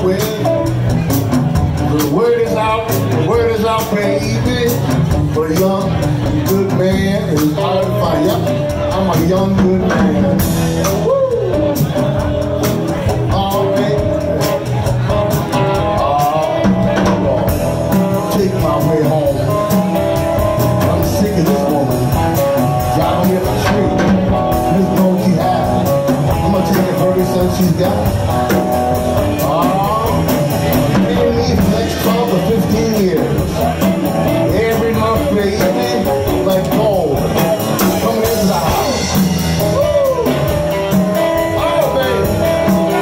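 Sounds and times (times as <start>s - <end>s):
drum kit: 0.0s - 43.0s
electric guitar lead: 0.0s - 43.0s
upright bass: 0.0s - 43.0s.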